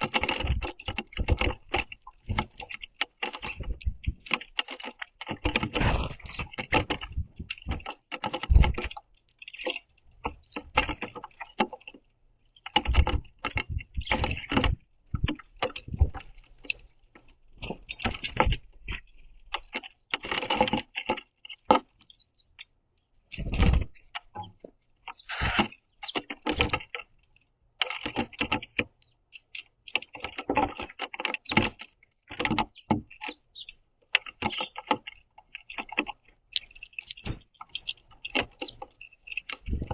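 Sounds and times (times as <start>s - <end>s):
birds pecking on wooden feeder: 0.0s - 39.9s.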